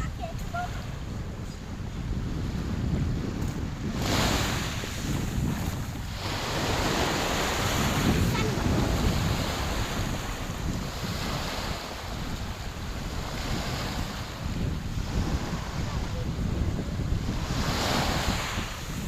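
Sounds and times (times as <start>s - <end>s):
sea waves breaking on beach: 0.0s - 19.0s
wind buffeting microphone: 0.0s - 19.0s.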